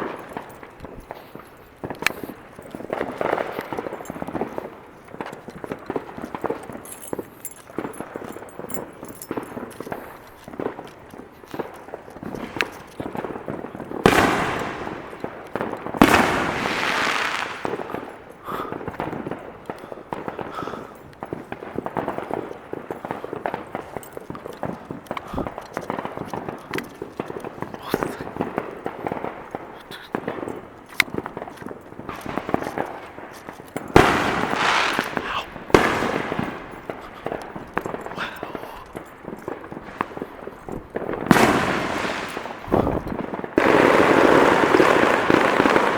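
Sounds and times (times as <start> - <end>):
fireworks bangs: 0.0 - 45.9
fireworks crackle: 0.0 - 45.9.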